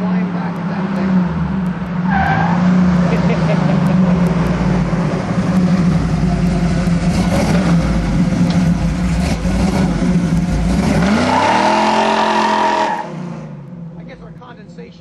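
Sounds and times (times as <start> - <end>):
car engine running and revving: 0.0 - 15.0.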